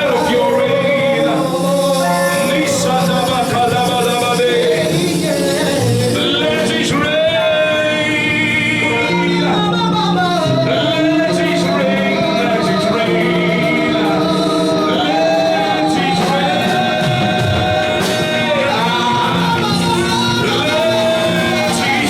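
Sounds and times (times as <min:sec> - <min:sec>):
instrumental accompaniment: 0:00.0 - 0:22.0
man singing: 0:00.0 - 0:22.0.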